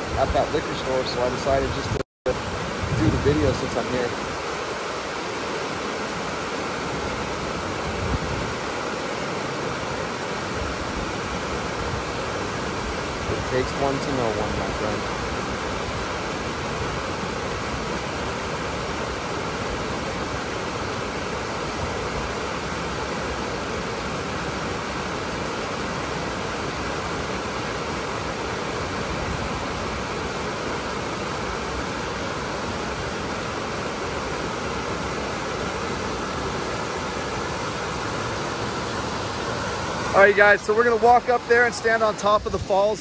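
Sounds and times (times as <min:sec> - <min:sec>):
white water rushing over rocks: 0:00.0 - 0:43.0.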